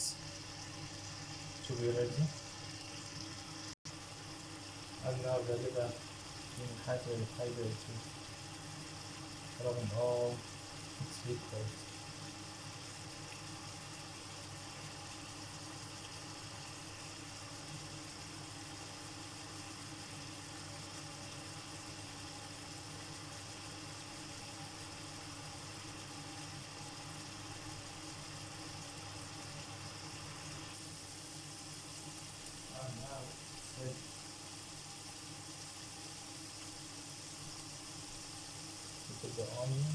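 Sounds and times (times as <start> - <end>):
liver sizzling in a pan: 0.0 - 39.9.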